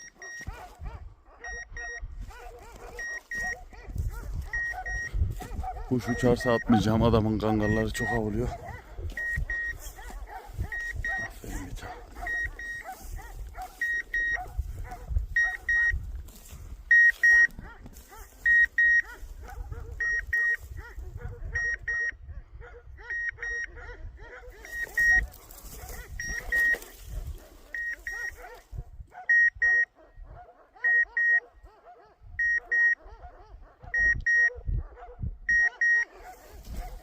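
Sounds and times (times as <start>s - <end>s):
beeper collar beeps: 0.0s - 22.2s, 23.0s - 23.8s, 24.6s - 28.5s, 29.3s - 30.0s, 30.8s - 31.5s, 32.4s - 33.0s, 34.0s - 34.6s, 35.5s - 36.9s
dogs barking: 0.0s - 37.0s.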